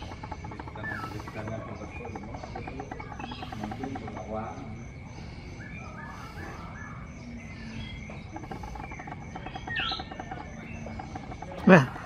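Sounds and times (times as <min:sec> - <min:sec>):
insects trilling: 0:00.0 - 0:12.0
mynas chirping and calling: 0:00.0 - 0:12.0.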